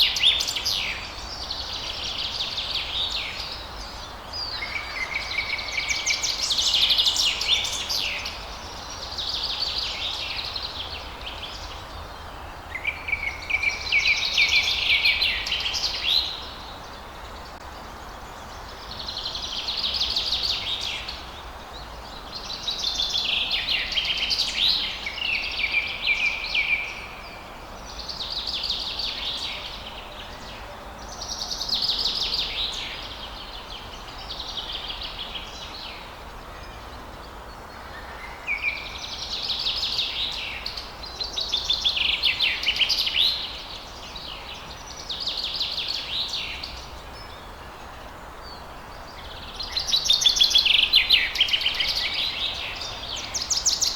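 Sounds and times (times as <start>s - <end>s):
faint background noise: 0.0s - 53.9s
songbird trills and warbles: 0.0s - 53.9s.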